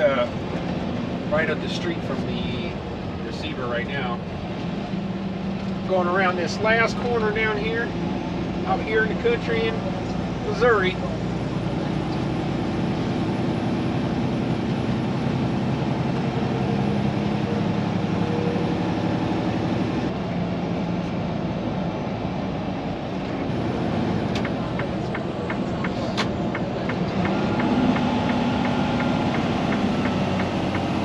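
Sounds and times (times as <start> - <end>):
road noise: 0.0 - 31.0
truck engine hum: 0.0 - 31.0.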